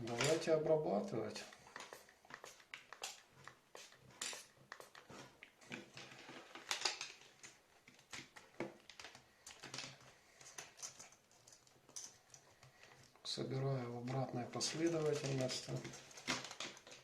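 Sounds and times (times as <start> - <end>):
plastic parts clicking and scraping: 1.4 - 13.3, 14.0 - 17.0.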